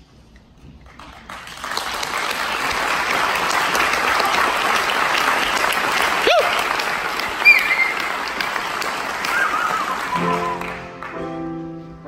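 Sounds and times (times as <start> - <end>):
audience applauding: 0.8 - 11.4.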